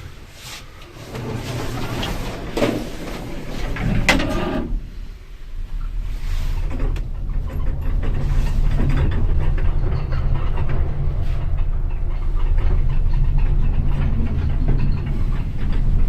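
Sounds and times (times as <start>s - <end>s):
lift car travelling rumble: 0.0s - 16.0s.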